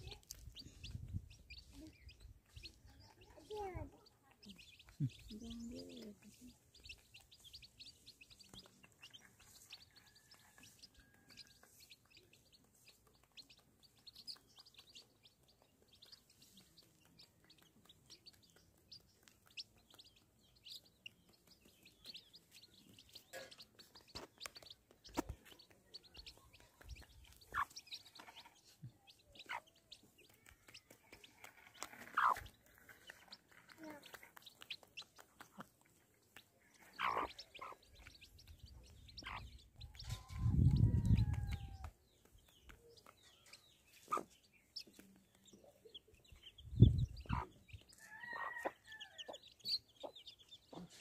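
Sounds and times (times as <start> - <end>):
chicks peeping: 0.0 - 51.0.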